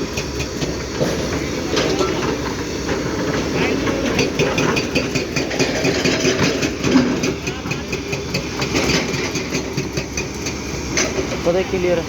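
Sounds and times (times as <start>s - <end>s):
heavy vehicle engine idling: 0.0s - 12.0s.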